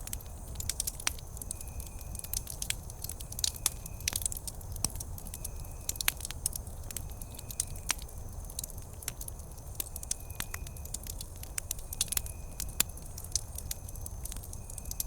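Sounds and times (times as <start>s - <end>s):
campfire pops and snaps: 0.0s - 15.0s
low rumble of burning fire: 0.0s - 15.0s.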